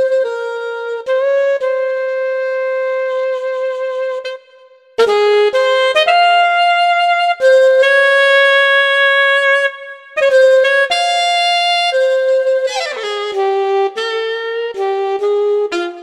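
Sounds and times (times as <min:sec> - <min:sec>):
keyboard saxophone melody: 0:00.0 - 0:16.0.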